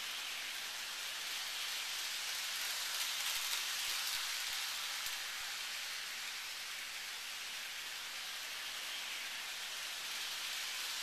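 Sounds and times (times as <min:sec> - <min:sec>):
toy train rattling on track: 0:00.0 - 0:11.0.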